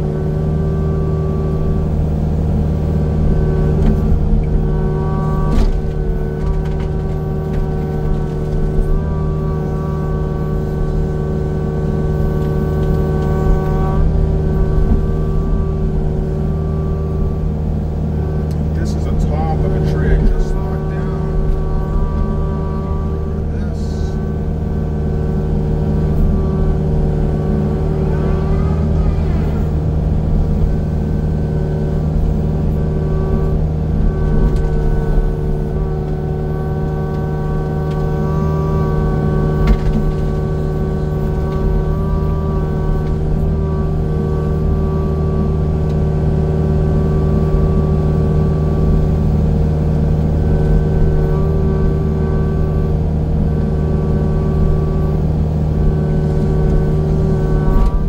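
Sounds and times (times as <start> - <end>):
machine engine running: 0.0 - 58.0.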